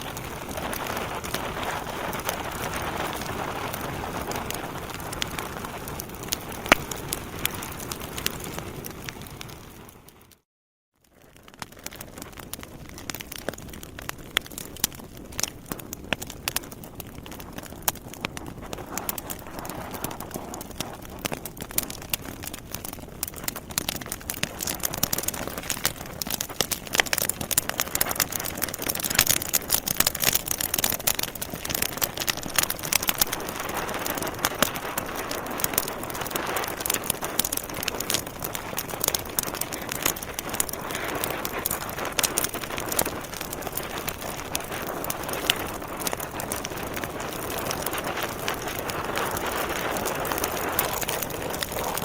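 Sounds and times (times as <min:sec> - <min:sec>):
fire burning: 0:00.0 - 0:10.4, 0:11.1 - 0:52.0
wood crackling and popping: 0:00.0 - 0:10.4, 0:11.0 - 0:52.0.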